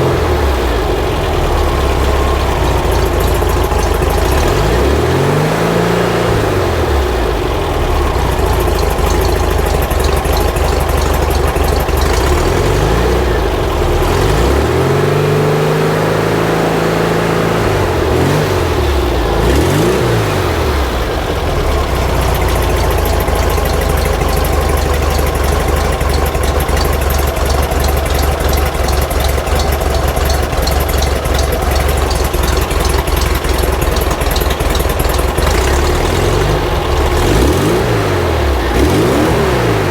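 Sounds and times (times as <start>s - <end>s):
engine revving and idling: 0.0s - 39.9s.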